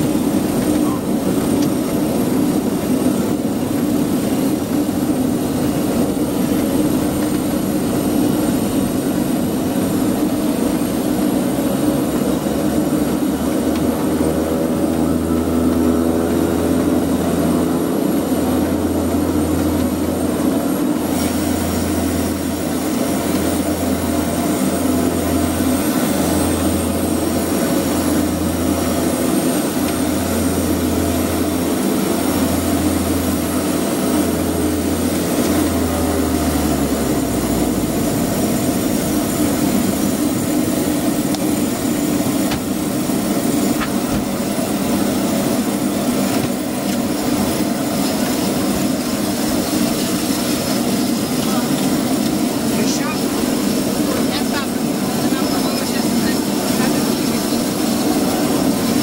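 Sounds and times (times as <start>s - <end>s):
turboprop engine drone with whine: 0.0s - 59.0s.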